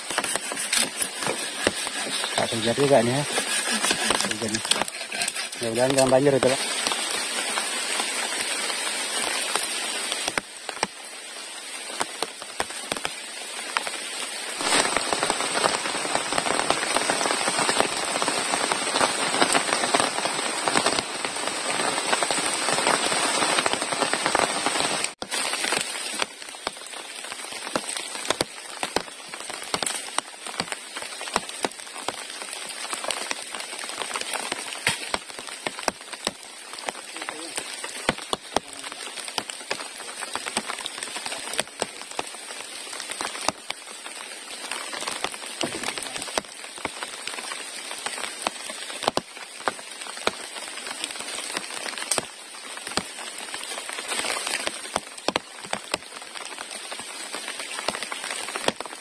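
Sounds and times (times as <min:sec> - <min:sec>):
rain pattering on water: 0:00.0 - 0:59.0.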